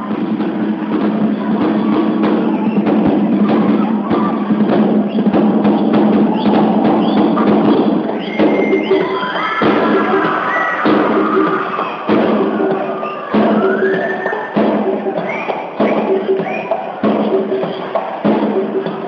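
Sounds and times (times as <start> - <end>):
drum kit and cymbals: 0.0 - 19.0.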